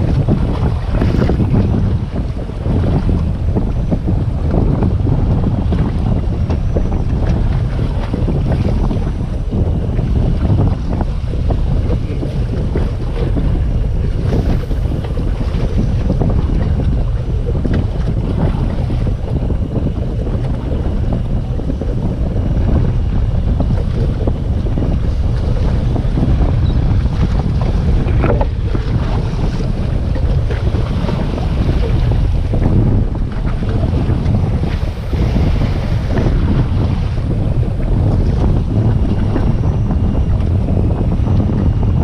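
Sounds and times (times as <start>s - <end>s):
waves washing against hull: 0.0s - 42.0s
wind buffeting microphone: 0.0s - 42.0s.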